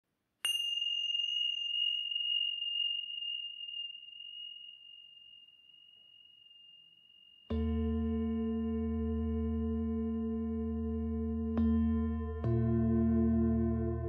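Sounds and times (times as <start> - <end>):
singing bowl ringing: 0.5 - 14.0.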